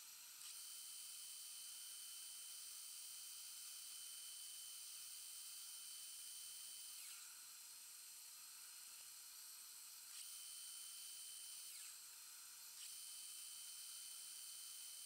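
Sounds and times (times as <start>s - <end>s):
high-pitched lathe whine: 0.1s - 15.0s.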